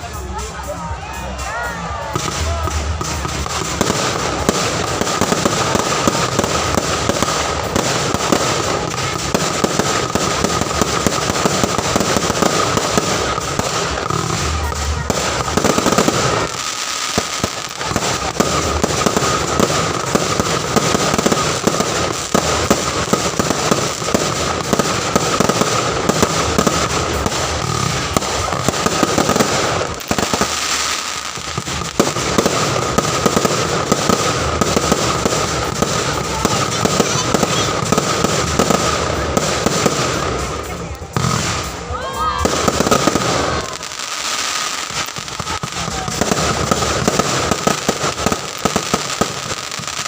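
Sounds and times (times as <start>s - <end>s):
fireworks crackling and banging: 0.0s - 50.0s.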